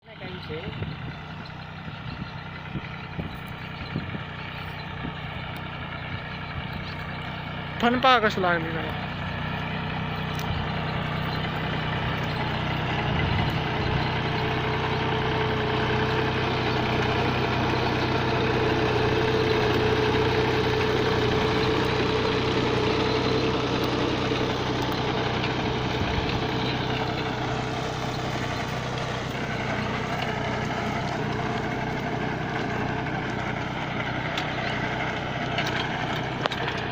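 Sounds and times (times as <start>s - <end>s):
tractor diesel engine idling: 0.0s - 36.9s.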